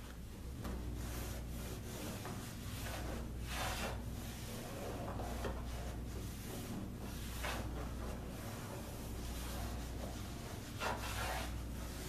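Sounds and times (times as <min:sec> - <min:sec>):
hands rubbing carpet on wall: 0:00.0 - 0:12.0.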